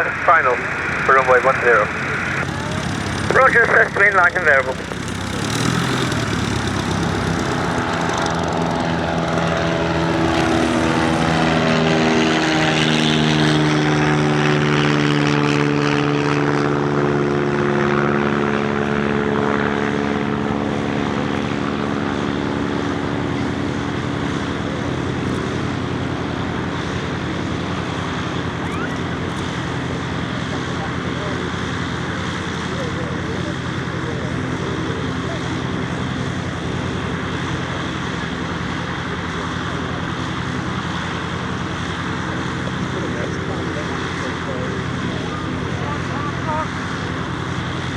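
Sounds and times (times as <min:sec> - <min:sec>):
propeller aircraft engine passing: 0:00.0 - 0:47.9.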